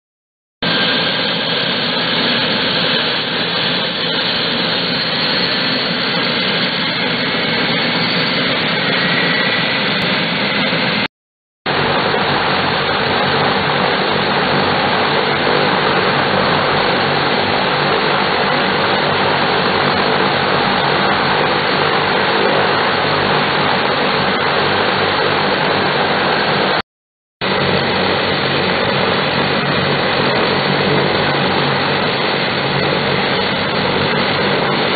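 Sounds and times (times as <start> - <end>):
turboprop engines droning: 0.6 - 11.1, 11.7 - 26.8, 27.4 - 34.9.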